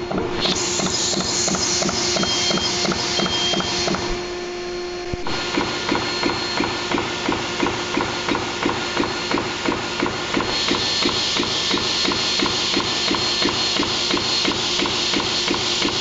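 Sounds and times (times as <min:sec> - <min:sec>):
perforating machine punching holes: 0:00.0 - 0:04.3, 0:05.1 - 0:16.0
steady machine hum: 0:00.0 - 0:16.0.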